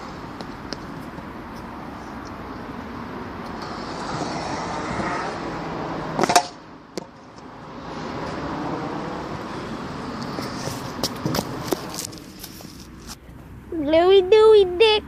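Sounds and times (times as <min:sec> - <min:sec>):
skateboard wheels rolling on concrete: 0:00.0 - 0:15.0.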